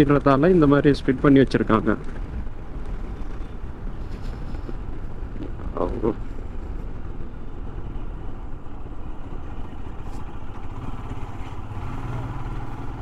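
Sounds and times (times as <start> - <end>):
motorcycle engine running at low speed: 0.0 - 13.0.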